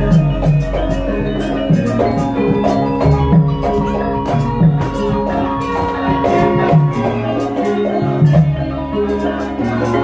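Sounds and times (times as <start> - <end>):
drum strokes: 0.0 - 10.0
ringing metallophone notes: 0.0 - 10.0.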